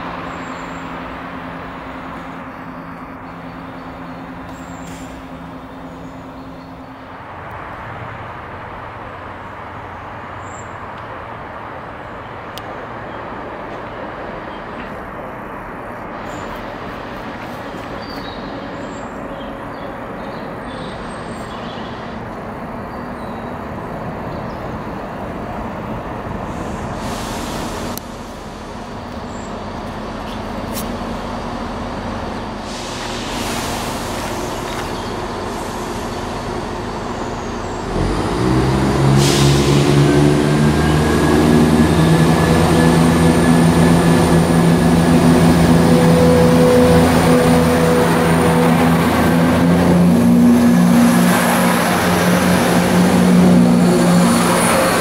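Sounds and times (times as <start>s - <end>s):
diesel train accelerating: 0.0s - 55.0s
diesel train engines running: 0.0s - 55.0s.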